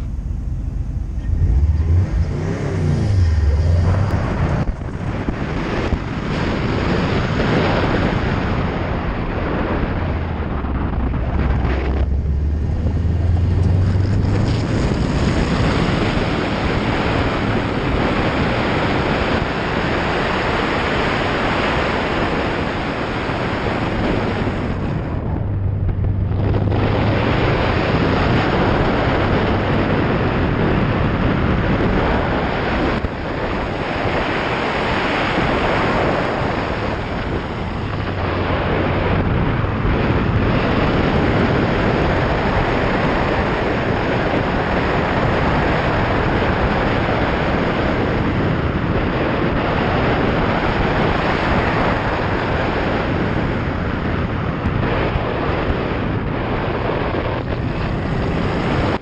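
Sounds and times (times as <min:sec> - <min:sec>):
car engine driven hard: 0:00.0 - 0:59.0
wind noise: 0:00.0 - 0:59.0.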